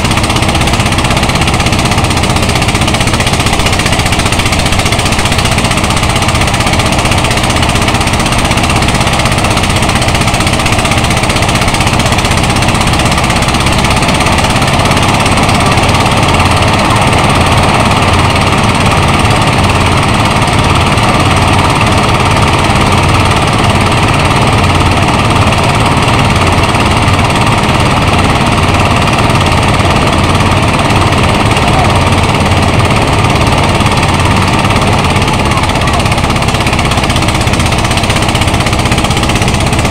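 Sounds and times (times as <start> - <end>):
rice thresher running: 0.0 - 39.9.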